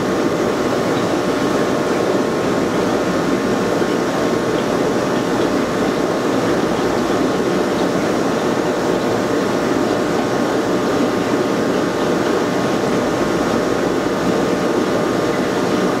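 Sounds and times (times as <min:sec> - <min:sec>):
aquarium filter hum and rush: 0:00.0 - 0:16.0.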